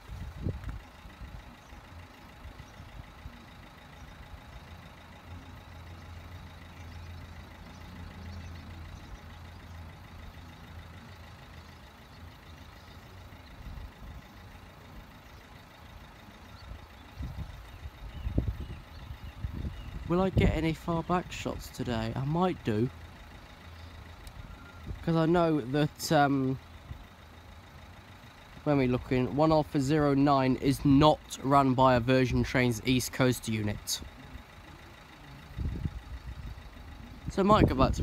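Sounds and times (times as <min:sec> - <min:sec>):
vehicle engine rumble: 0:00.0 - 0:38.0.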